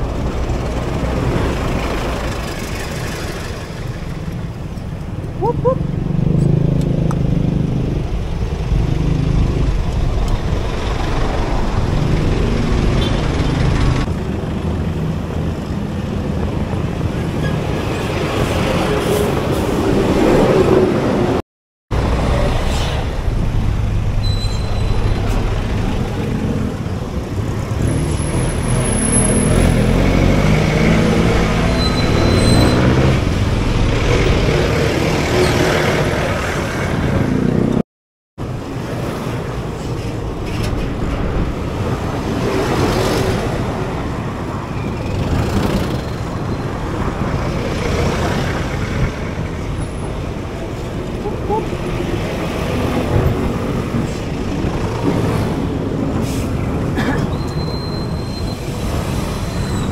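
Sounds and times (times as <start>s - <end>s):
dense city traffic: 0.0s - 37.8s, 38.4s - 59.9s.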